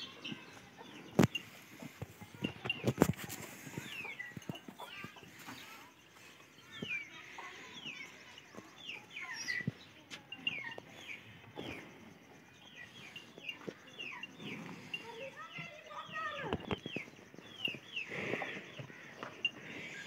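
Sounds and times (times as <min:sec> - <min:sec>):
calves munching fodder: 0:00.0 - 0:09.9, 0:10.5 - 0:20.0
birds chirping: 0:00.0 - 0:20.0.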